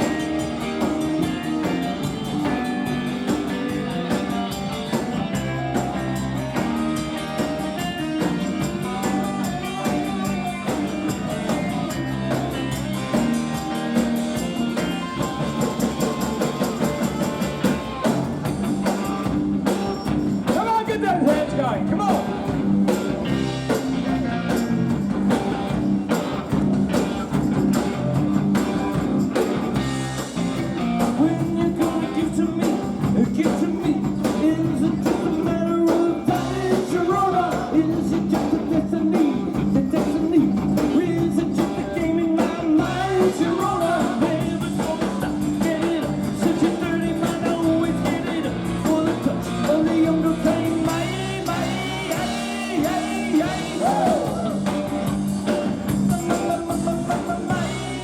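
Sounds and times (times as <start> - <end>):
electric guitar: 0.0 - 58.0
live rock band playing: 0.0 - 58.0.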